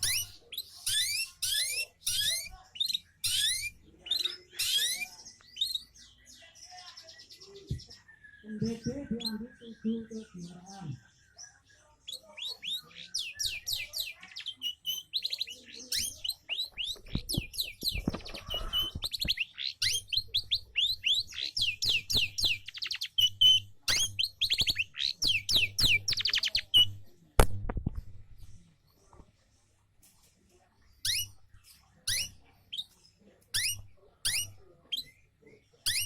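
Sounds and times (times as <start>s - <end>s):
canary singing trills: 0.0s - 27.2s, 30.8s - 36.0s.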